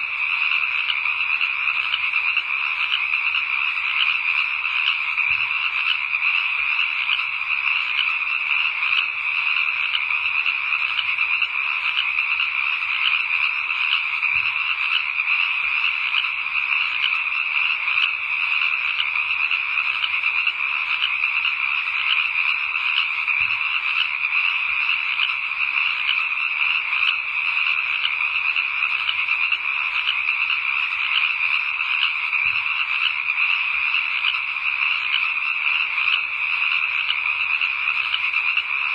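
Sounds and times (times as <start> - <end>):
frogs chorus: 0.0 - 38.9.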